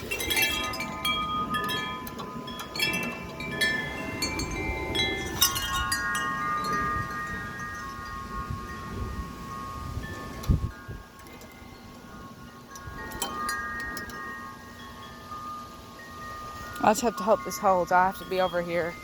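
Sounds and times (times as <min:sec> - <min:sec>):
metal wind chimes clanging: 0:00.0 - 0:19.0
wind buffeting microphone: 0:00.0 - 0:19.0.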